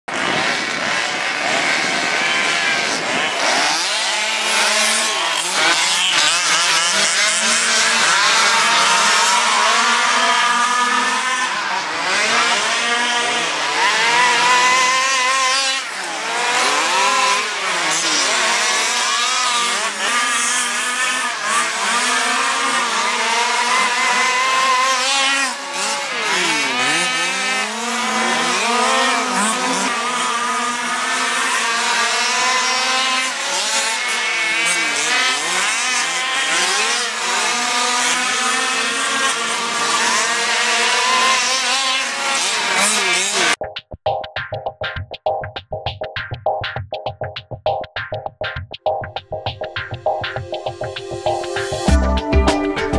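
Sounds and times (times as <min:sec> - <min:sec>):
rc car engines revving: 0:00.1 - 0:43.6.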